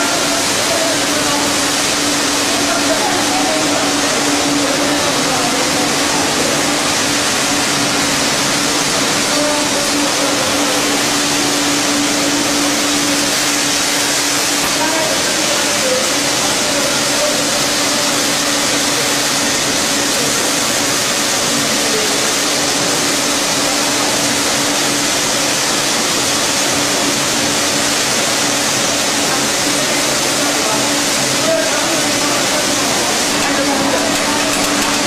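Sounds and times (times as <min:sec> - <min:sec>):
low machine hum: 0:00.0 - 0:35.0
packaging machine hissing: 0:00.0 - 0:35.0.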